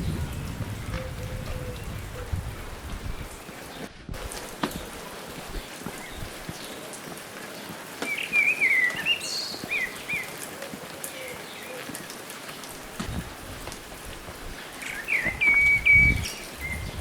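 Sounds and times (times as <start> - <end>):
outdoor hiss: 2.7 - 17.0.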